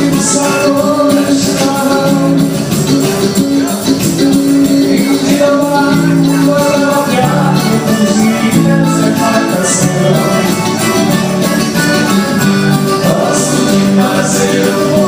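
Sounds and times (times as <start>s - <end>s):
band music playing: 0.0s - 15.0s.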